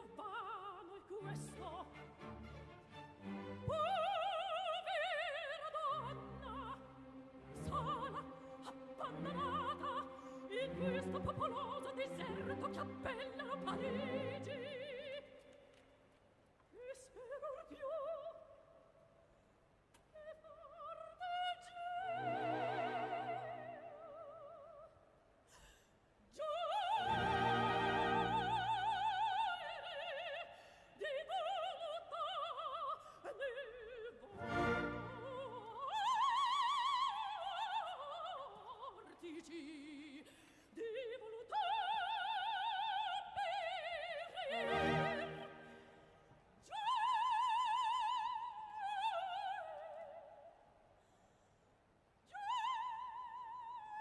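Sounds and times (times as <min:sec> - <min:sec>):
operatic singing with vibrato: 0:00.0 - 0:15.7, 0:20.2 - 0:25.1, 0:26.3 - 0:50.6.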